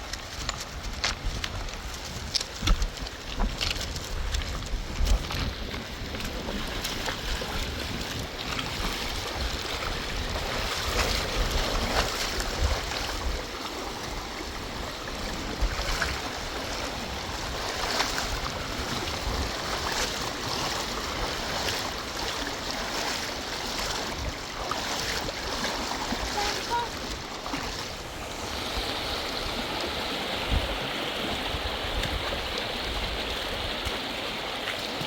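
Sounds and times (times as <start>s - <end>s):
river rushing: 0.0s - 35.0s
wind rumbling on microphone: 0.0s - 35.0s.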